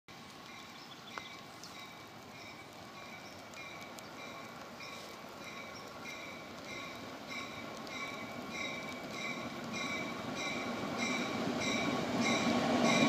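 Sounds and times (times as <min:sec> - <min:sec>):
railroad warning bell ringing: 0:00.4 - 0:13.0.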